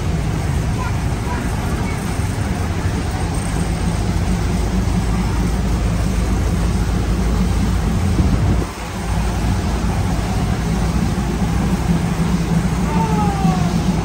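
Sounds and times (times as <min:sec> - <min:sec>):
diesel train running: 0:00.0 - 0:14.0.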